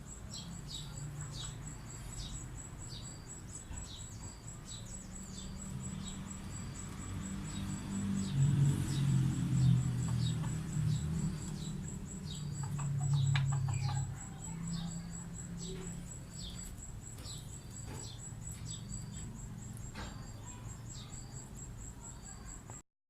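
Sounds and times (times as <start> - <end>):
high insect trill: 0.0 - 22.8
small bird chirping: 0.0 - 22.8.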